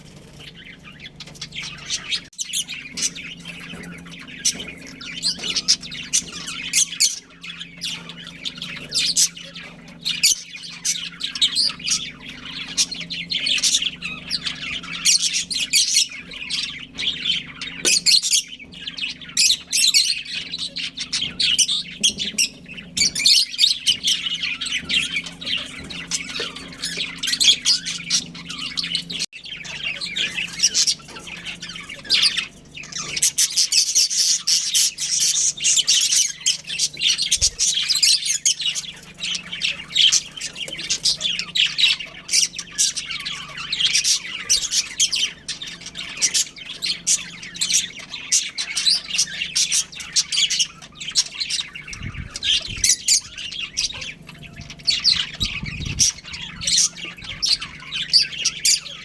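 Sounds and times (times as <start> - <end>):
budgerigars chirping: 0.0 - 59.0.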